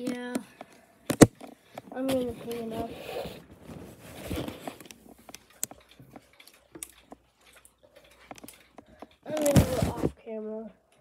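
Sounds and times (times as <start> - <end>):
rustling handling noise: 0.0 - 10.6.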